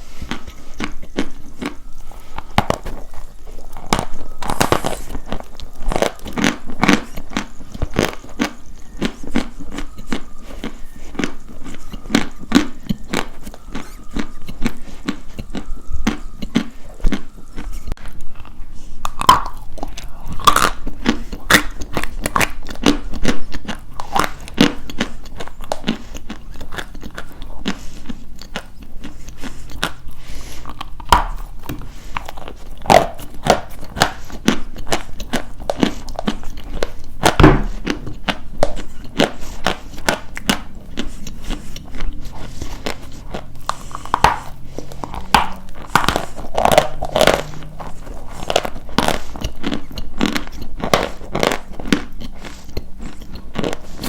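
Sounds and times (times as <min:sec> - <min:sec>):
chalk being chewed: 0:00.0 - 0:54.0.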